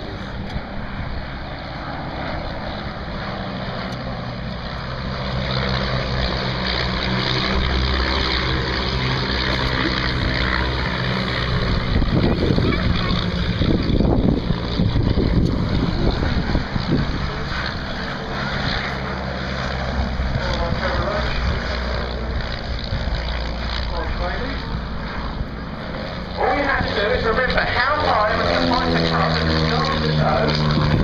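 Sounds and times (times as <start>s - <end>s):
propeller aircraft engine droning: 0.0s - 31.0s.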